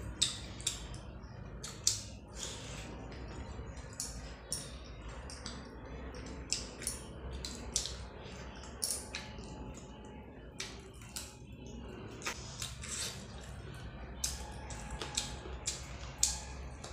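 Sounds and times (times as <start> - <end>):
mouth chewing and smacking: 0.0 - 16.9.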